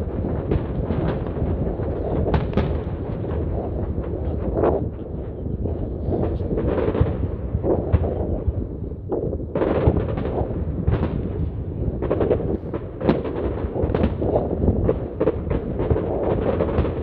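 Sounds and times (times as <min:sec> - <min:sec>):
continuous low rumble: 0:00.0 - 0:17.0
firework bangs and booms: 0:00.0 - 0:17.0.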